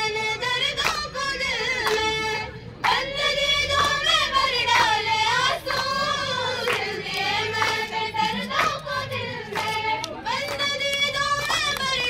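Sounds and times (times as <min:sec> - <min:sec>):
girls singing: 0:00.0 - 0:12.0
group hand clapping: 0:00.6 - 0:12.0.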